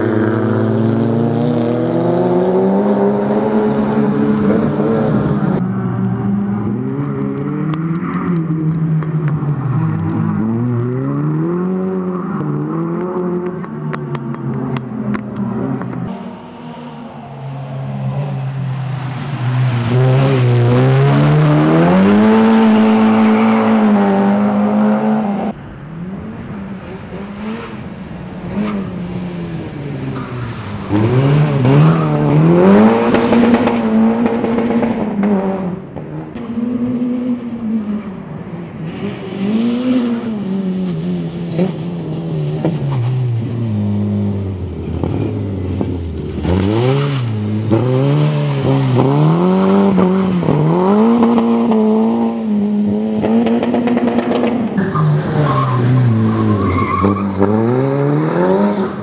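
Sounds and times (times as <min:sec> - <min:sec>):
rally car engine revving: 0:00.0 - 0:25.6, 0:26.2 - 0:59.0.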